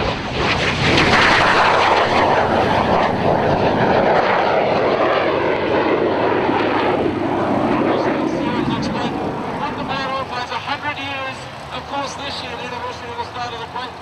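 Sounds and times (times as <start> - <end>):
jet roar in flight: 0.0 - 14.0.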